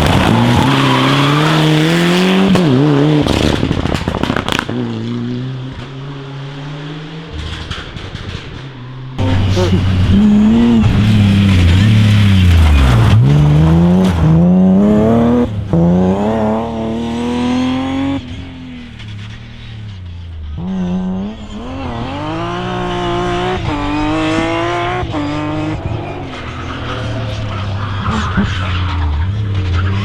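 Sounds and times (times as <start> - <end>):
rally car engine accelerating: 0.0 - 30.0.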